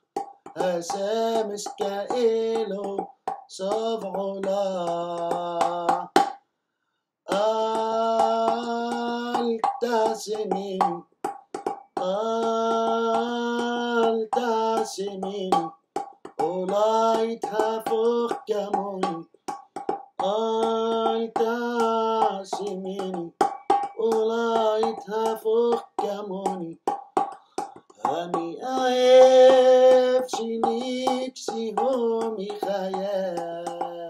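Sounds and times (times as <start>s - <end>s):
hands tapping on steel bowl: 0.0s - 6.4s, 7.3s - 34.0s
man singing: 0.5s - 6.4s, 7.3s - 11.1s, 11.9s - 19.6s, 20.2s - 27.0s, 28.0s - 34.0s.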